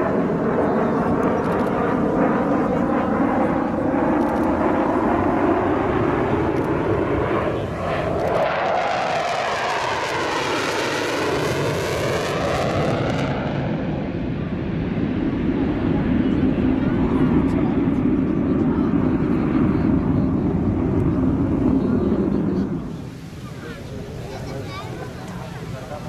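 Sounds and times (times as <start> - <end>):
jet roaring past: 0.0 - 26.0.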